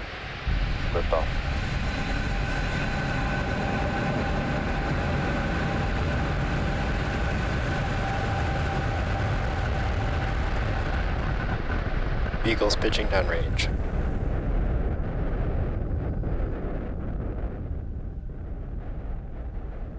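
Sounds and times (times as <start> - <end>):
rocket engines deep rumble: 0.0 - 19.9.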